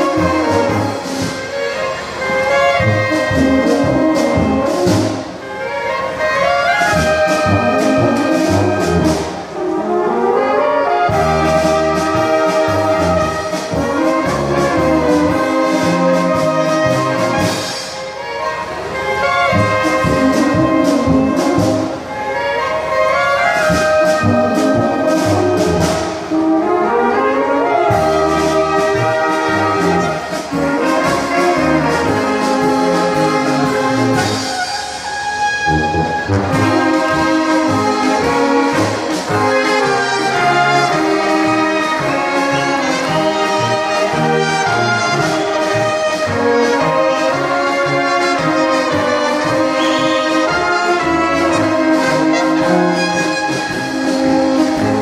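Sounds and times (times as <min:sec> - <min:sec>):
wind band playing polka: 0:00.0 - 0:55.0.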